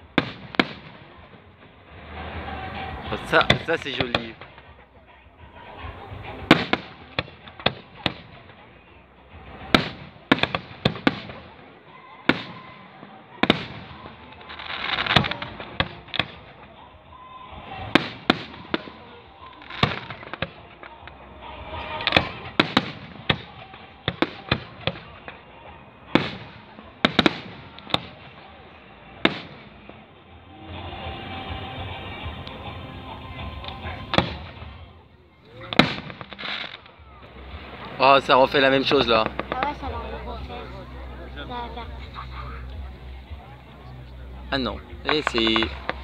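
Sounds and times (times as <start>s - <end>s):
firework bangs: 0.0s - 46.0s
firework crackle: 0.0s - 46.0s.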